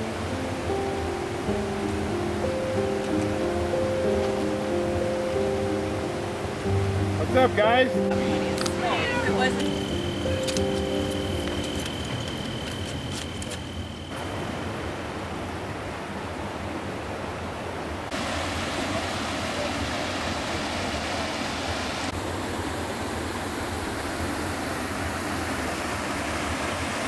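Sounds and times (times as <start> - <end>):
river rushing over boulders: 0.0 - 27.0.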